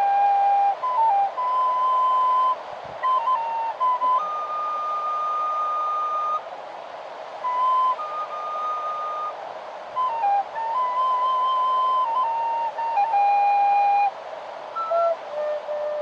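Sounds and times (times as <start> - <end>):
flute playing slow melody: 0.0 - 6.5, 7.3 - 16.0
steady hiss: 0.0 - 16.0.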